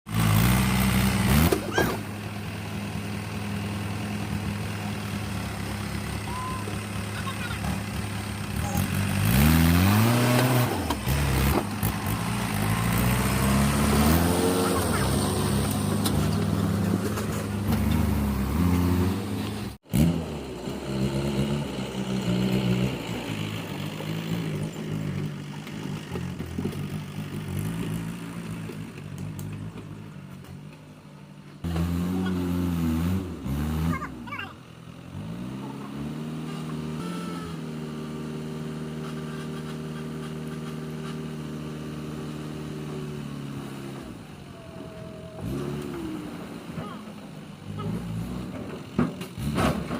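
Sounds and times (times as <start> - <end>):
tractor diesel engine revving: 0.1 - 49.9.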